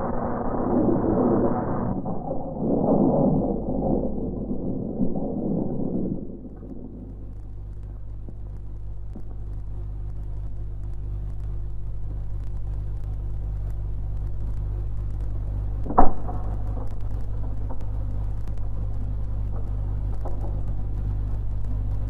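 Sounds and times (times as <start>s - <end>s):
low rumbling soundtrack drone: 0.0s - 22.0s.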